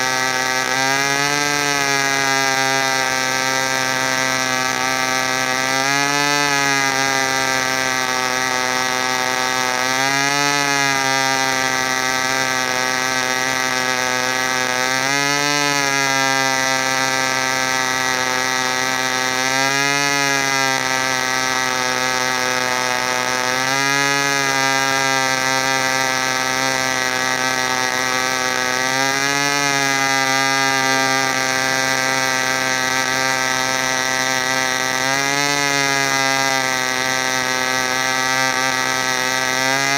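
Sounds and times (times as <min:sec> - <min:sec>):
model airplane engine buzzing: 0:00.0 - 0:39.9.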